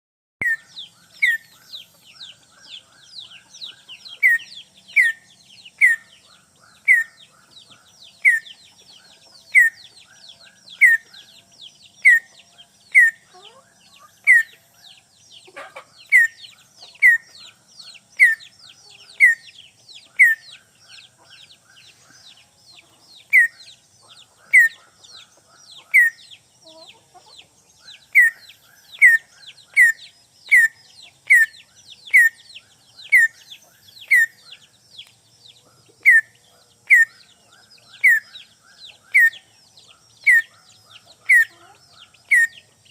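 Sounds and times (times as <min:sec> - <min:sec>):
faint high twittering: 0:00.4 - 0:42.9.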